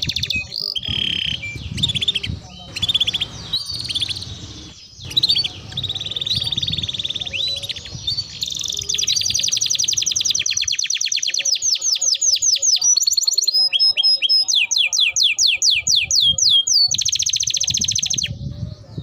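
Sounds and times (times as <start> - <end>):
canary singing trills: 0.0 - 19.0.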